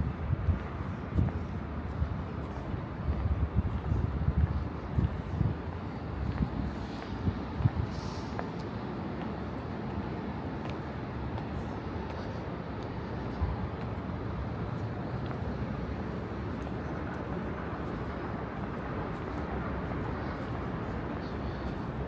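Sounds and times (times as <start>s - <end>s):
low city rumble: 0.0s - 22.0s.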